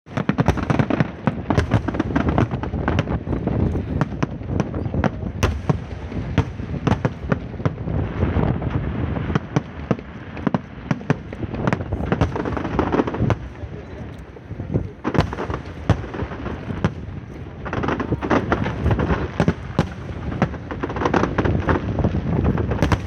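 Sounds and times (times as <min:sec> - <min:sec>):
firecrackers crackling: 0:00.1 - 0:23.0
fireworks bangs: 0:00.1 - 0:23.0.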